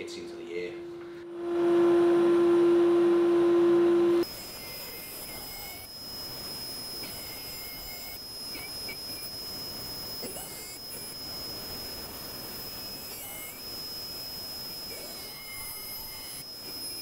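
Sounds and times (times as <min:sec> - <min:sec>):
router whining while cutting wood: 0:01.4 - 0:17.0.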